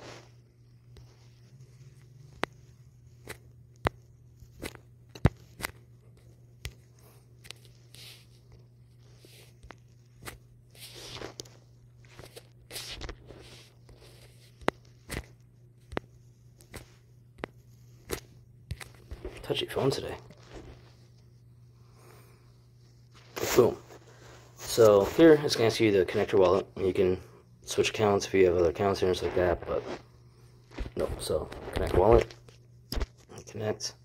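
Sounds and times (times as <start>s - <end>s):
soft rustles: 0.0s - 3.5s, 6.2s - 27.1s, 28.0s - 33.4s
low steady hum: 0.0s - 34.0s.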